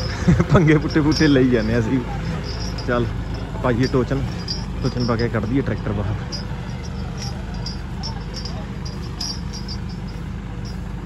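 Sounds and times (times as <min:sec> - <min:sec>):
tractor engines idling: 0:00.0 - 0:11.0
crickets chirping: 0:00.9 - 0:11.0.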